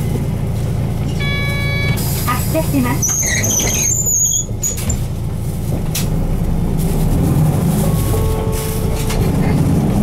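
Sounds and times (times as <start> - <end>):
bus diesel engine droning: 0.0 - 10.0
road noise: 0.0 - 10.0.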